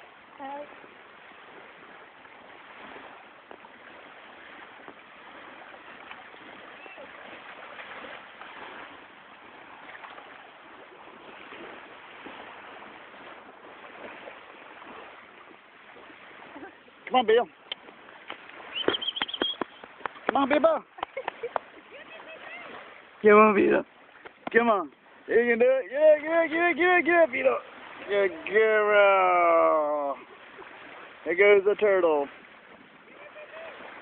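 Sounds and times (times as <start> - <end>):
ocean surf washing onto beach: 0.0 - 34.0.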